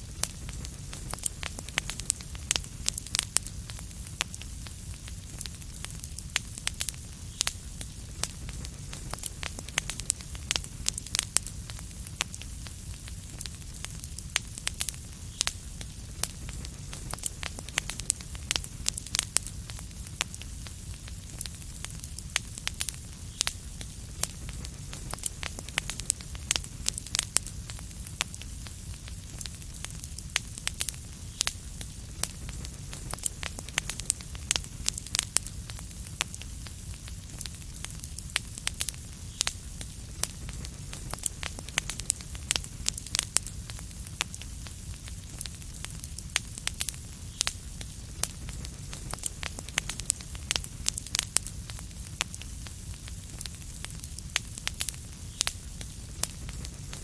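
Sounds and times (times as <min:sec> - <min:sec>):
sharp fire pops and snaps: 0:00.0 - 0:57.0
wood fire crackling: 0:00.0 - 0:57.0.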